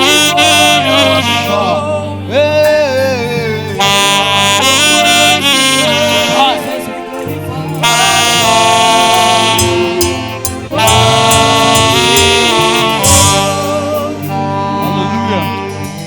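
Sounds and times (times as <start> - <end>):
band accompaniment: 0.0 - 16.0
saxophone melody: 0.0 - 16.0.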